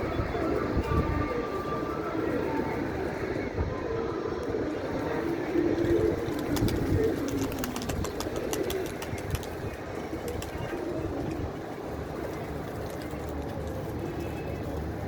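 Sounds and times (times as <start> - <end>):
pigeons cooing: 0.0 - 14.8.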